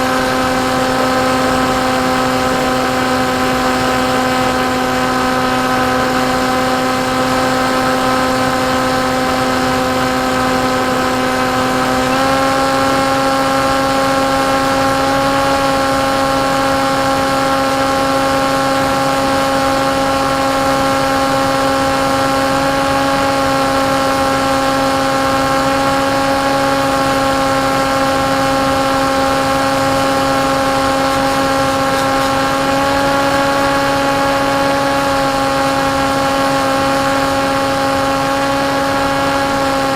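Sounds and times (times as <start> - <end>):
electric motor and propeller buzzing: 0.0 - 39.9.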